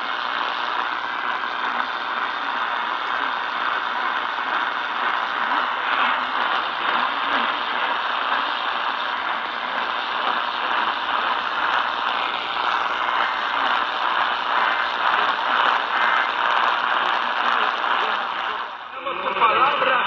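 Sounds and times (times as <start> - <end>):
radio static hiss: 0.0 - 20.0
weak radio station: 0.0 - 20.0.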